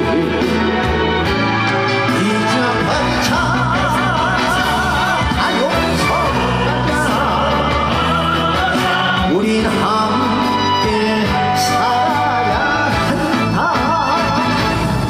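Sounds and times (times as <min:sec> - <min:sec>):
live band music over loudspeakers: 0:00.0 - 0:15.0.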